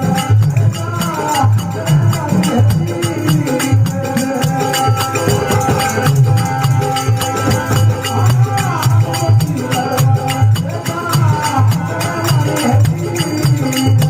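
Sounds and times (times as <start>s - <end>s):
dholak drum beats: 0.0s - 14.0s
jingling hand percussion: 0.0s - 14.0s.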